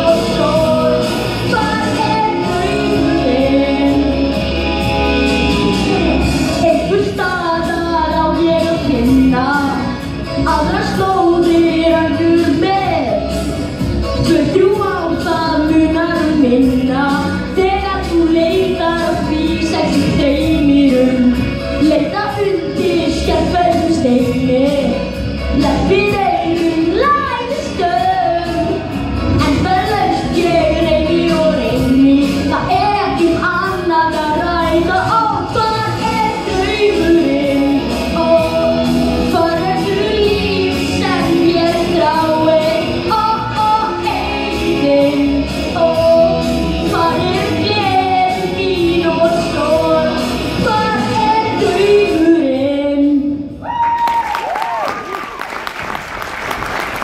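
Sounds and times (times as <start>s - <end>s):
child singing into a microphone: 0.0s - 4.4s, 6.6s - 9.9s, 10.5s - 13.2s, 14.2s - 25.0s, 25.6s - 28.8s, 29.4s - 53.5s
pop backing track with beat: 0.0s - 53.5s.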